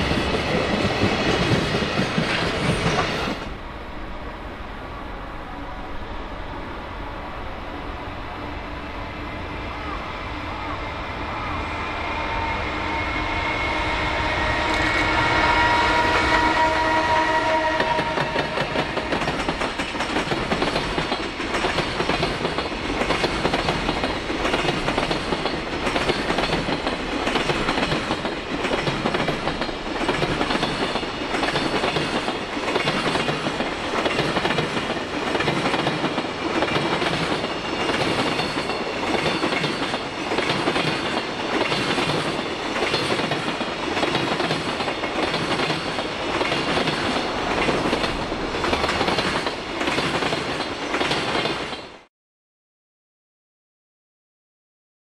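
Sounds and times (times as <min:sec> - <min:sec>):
electric locomotive whine: 0:00.0 - 0:51.7.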